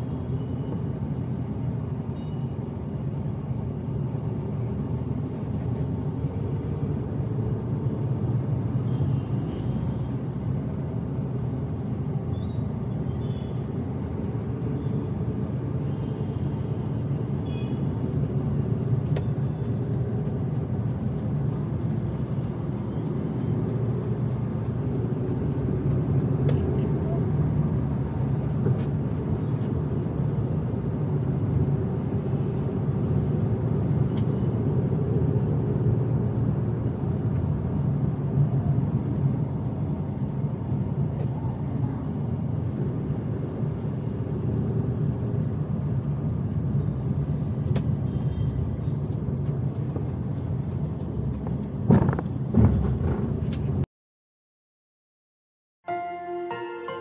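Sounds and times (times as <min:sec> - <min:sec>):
car engine and road noise: 0:00.0 - 0:53.9.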